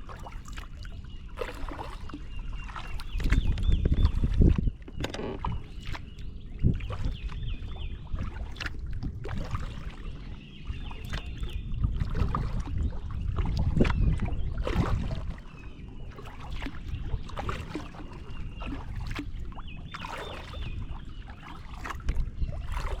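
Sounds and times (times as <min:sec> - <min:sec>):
paddle strokes splashing water: 0:00.0 - 0:23.0.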